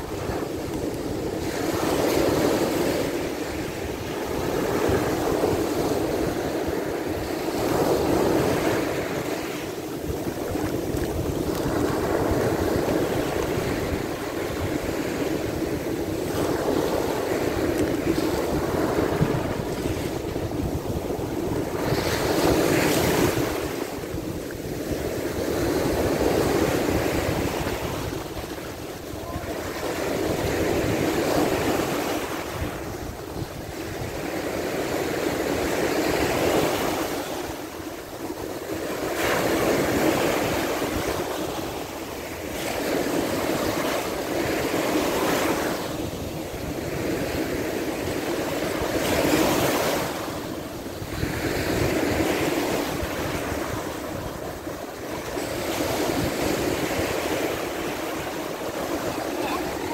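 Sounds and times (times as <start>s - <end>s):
waves breaking on beach: 0.0s - 59.9s
wind buffeting microphone: 0.0s - 59.9s.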